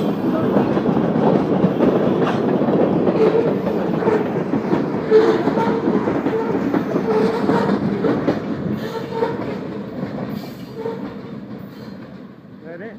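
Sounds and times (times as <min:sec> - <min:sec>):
train wheels clickety-clack: 0:00.0 - 0:12.9.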